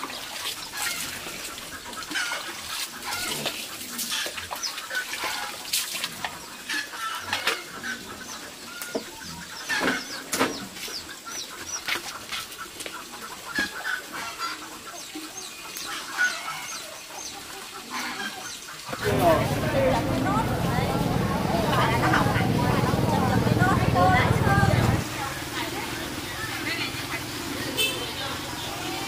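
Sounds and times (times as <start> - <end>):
chickens clucking: 0.0 - 27.8.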